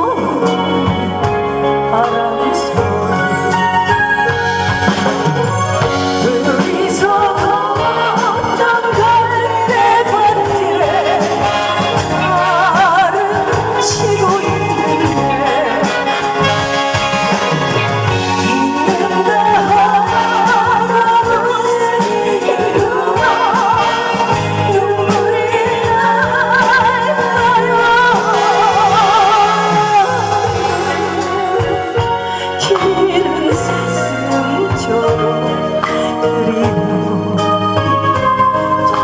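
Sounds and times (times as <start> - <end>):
instrumental backing music: 0.0 - 39.0
person singing with vibrato: 0.0 - 39.0.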